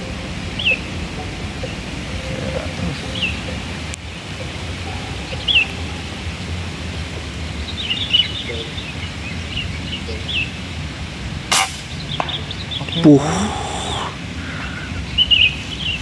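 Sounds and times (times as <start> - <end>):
small birds chirping: 0.0 - 16.0
wind rumble on microphone: 0.0 - 16.0.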